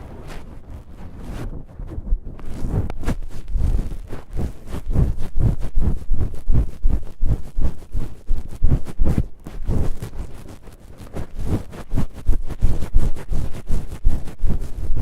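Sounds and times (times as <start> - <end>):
foam pad scraping microphone: 0.0 - 15.0.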